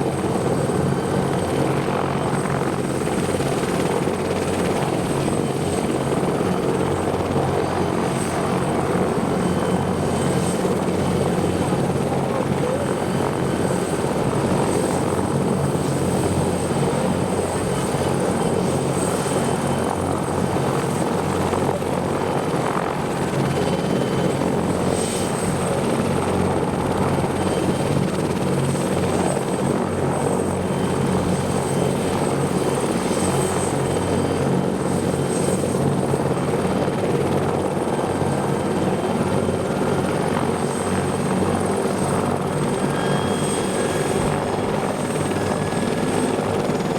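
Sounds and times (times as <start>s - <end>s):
helicopter turbine and rotor drone: 0.0s - 46.9s.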